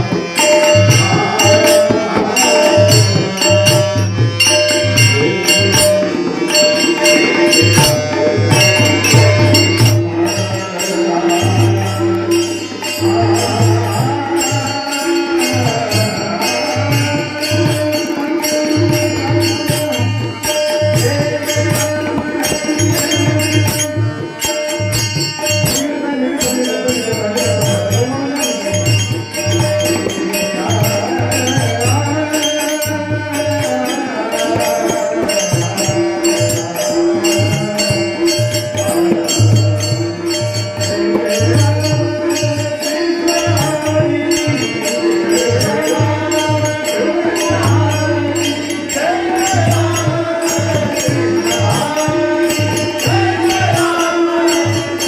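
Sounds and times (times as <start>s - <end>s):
jingling percussion: 0.0s - 55.0s
person singing: 0.0s - 55.0s
tabla playing a rhythm: 0.0s - 55.0s.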